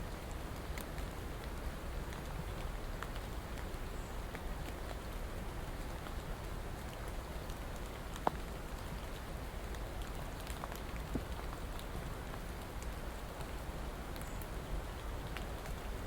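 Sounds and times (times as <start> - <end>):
steady rain hiss: 0.0 - 16.0
raindrops ticking: 0.1 - 16.0.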